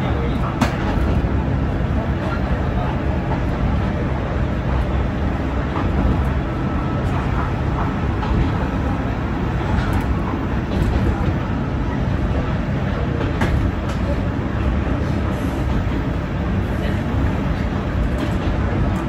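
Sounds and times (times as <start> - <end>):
diesel railcar rumble: 0.0 - 19.0.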